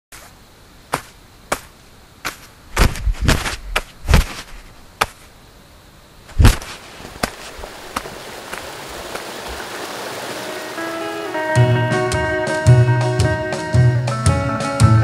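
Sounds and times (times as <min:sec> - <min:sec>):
running water hissing: 0:00.2 - 0:12.3.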